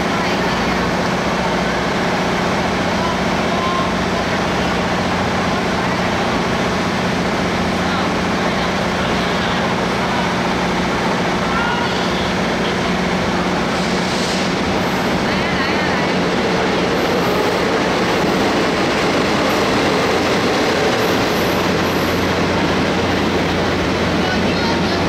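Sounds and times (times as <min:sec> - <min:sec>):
passing train low hum: 0:00.0 - 0:25.0
train wheels on rails: 0:00.0 - 0:25.0.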